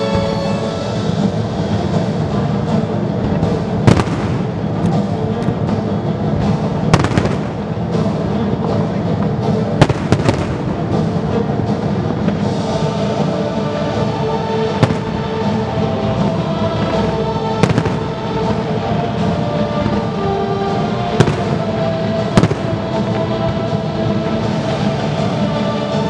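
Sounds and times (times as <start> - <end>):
music playing: 0.0 - 26.0.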